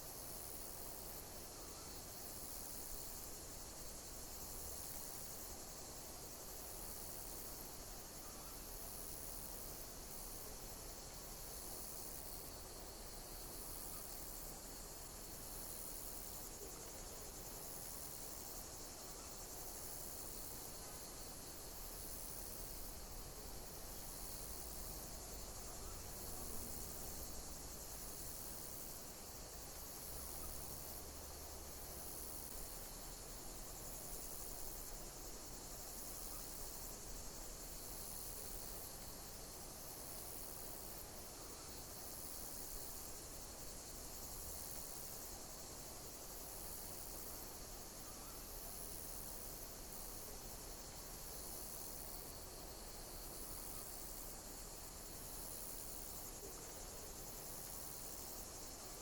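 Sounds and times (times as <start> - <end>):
high-pitched insect hiss: 0.0 - 59.0
insect chirping: 0.0 - 59.0.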